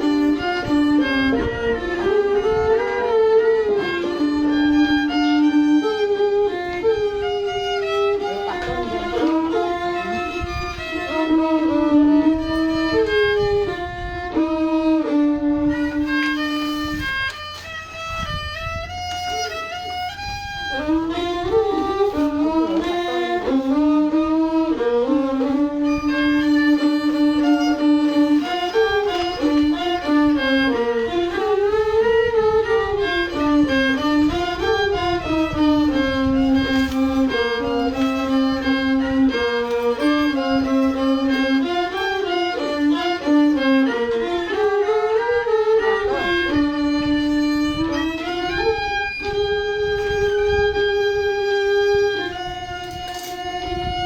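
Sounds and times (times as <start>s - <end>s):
bowed fiddle melody: 0.0s - 54.0s.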